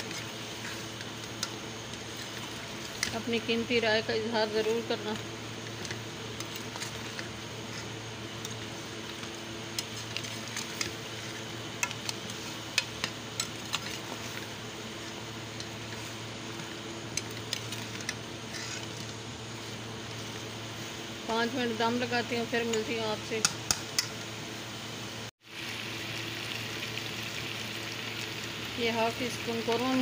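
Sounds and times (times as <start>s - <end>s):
food sizzling in a pot: 0.0s - 30.0s
low steady hum: 0.0s - 30.0s.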